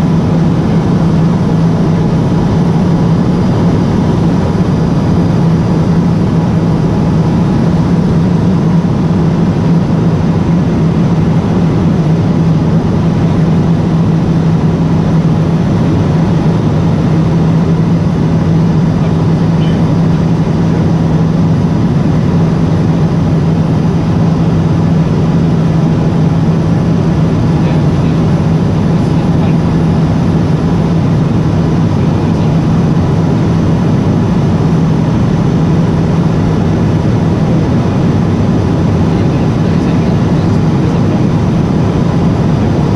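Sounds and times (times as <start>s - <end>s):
turboprop engine drone in flight: 0.0s - 42.9s.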